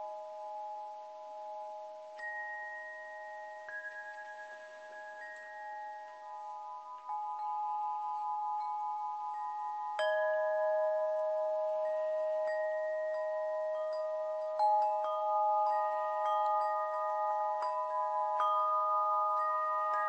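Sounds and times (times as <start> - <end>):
metal chimes ringing: 0.0 - 20.0.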